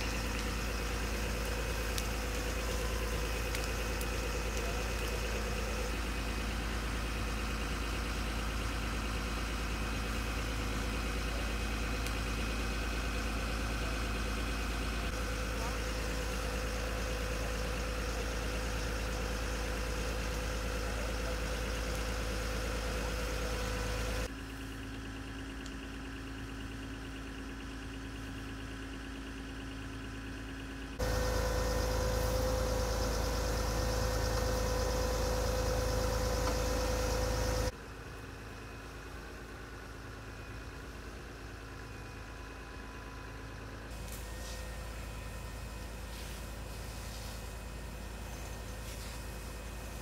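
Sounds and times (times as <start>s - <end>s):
fire engine humming with whine: 0.0s - 50.0s.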